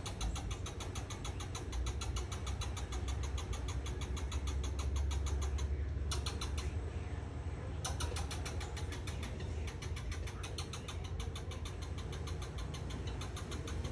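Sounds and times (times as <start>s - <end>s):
squirrel chattering alarm call: 0.0s - 6.9s, 7.7s - 13.9s
steady low rumble: 0.0s - 13.9s.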